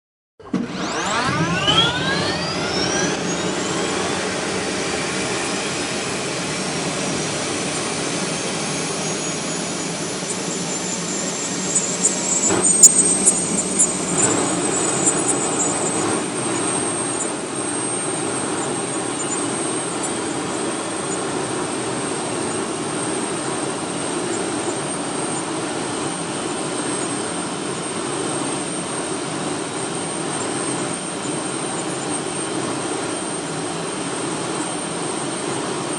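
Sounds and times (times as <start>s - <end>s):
jet engine whine: 0.4s - 35.9s.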